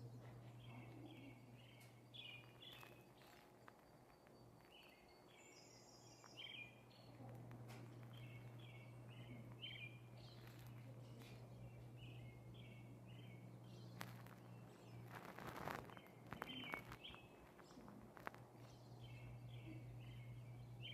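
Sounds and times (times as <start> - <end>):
faint bird chirps: 0.0 - 20.9
low steady hum: 0.0 - 20.9.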